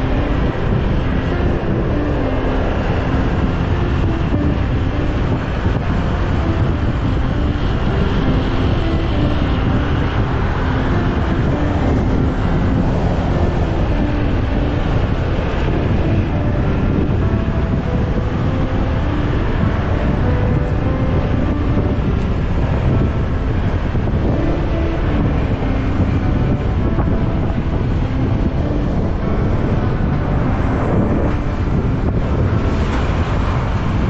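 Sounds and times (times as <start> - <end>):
road noise: 0.0 - 34.0
wind buffeting on camera: 0.0 - 34.0.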